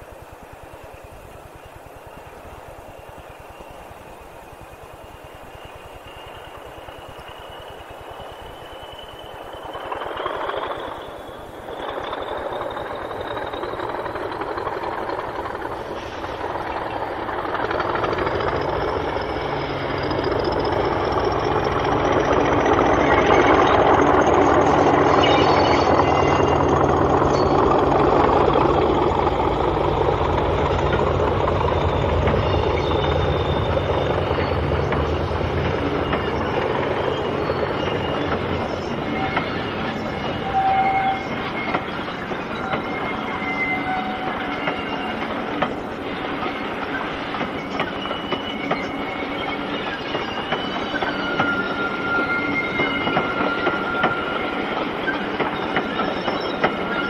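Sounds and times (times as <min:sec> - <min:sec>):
diesel locomotive engine drone: 0:00.0 - 0:57.0
high wheel squeals: 0:05.0 - 0:57.0
wheels clacking on rail joints: 0:06.1 - 0:57.0.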